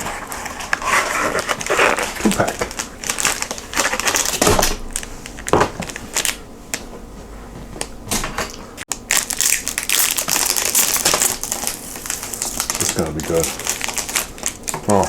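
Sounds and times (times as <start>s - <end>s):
snack packaging crinkling: 0.0s - 6.4s, 8.9s - 15.0s.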